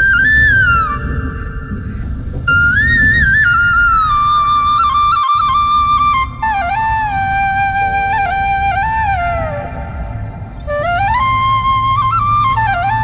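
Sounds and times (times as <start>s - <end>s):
slow flute melody: 0.0s - 13.0s
steady low rumble: 0.0s - 13.0s.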